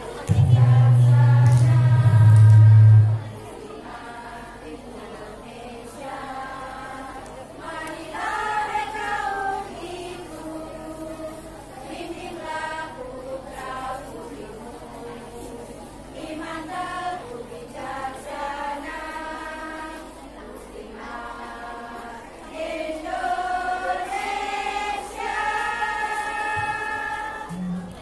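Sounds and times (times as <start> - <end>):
women's choir singing: 0.0 - 28.0.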